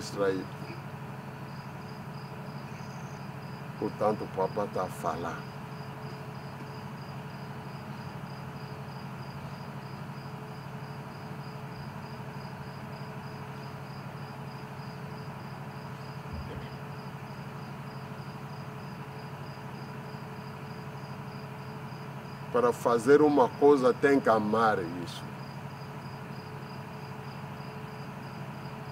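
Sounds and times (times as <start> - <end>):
cricket chirping: 0.0 - 28.9.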